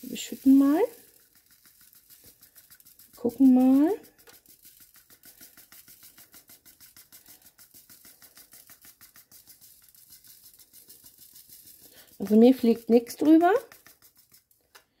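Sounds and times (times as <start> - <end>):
tiny beads rattling in plastic tray: 0.0 - 14.8.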